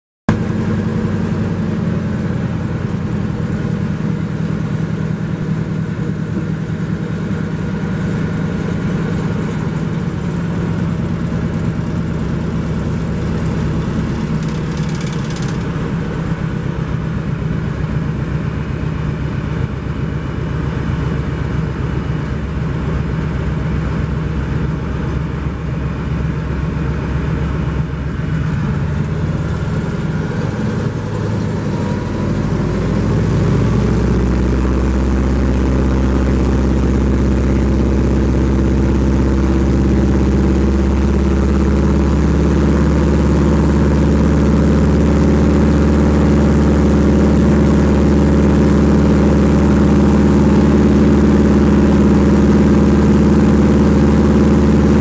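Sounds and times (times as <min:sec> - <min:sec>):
radial aircraft engine and propeller: 0:00.3 - 0:55.0.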